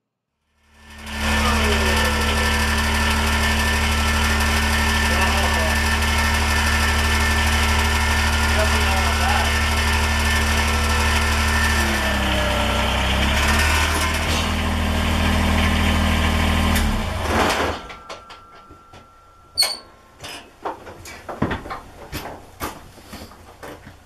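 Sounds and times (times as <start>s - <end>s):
tractor diesel engine running: 0.6s - 24.0s.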